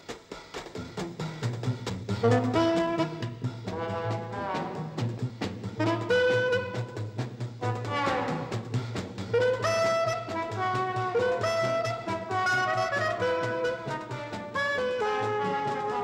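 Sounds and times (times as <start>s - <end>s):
brass band film music: 0.0s - 16.0s.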